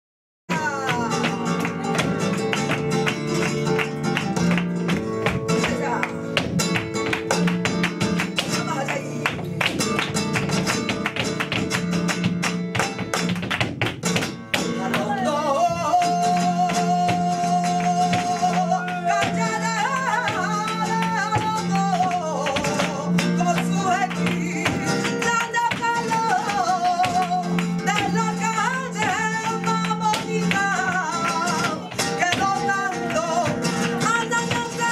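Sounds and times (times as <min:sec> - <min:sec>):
flamenco guitar strumming: 0:00.5 - 0:34.9.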